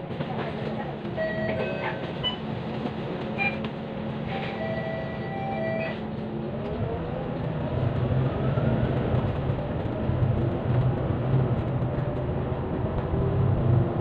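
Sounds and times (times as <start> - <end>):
bus engine accelerating: 0.0 - 14.0.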